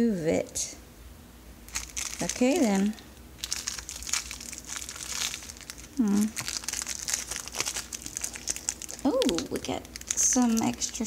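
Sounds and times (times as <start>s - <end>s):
plastic bag crinkling: 1.7s - 11.0s.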